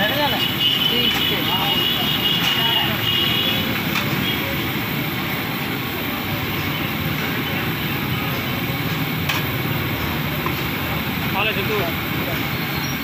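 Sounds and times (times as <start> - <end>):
gas burner rumble: 0.3 - 13.0
oil sizzling while deep-frying: 0.4 - 13.0.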